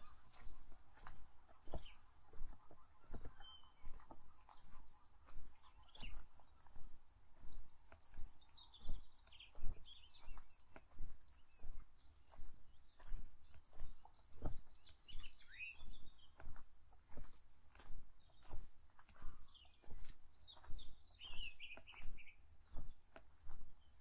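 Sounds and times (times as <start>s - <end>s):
footsteps on a path: 0.0s - 24.0s
songbirds chirping: 0.0s - 24.0s.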